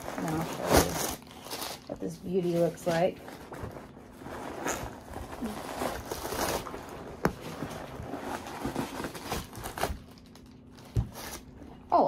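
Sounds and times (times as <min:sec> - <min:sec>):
packing stuffing rustling: 0:00.0 - 0:11.6.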